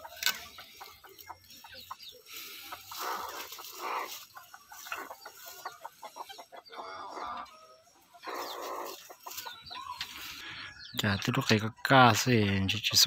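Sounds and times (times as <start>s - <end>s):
chicken clucking: 0.0s - 12.1s.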